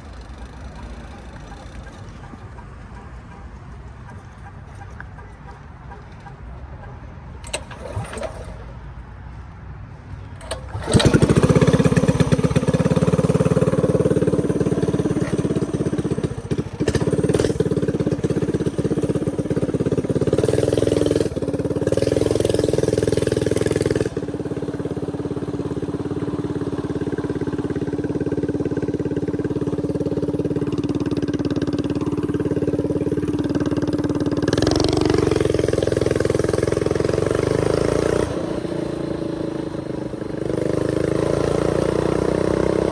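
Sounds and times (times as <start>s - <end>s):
mini bike engine running: 0.0s - 6.4s, 7.4s - 8.8s, 10.4s - 42.9s.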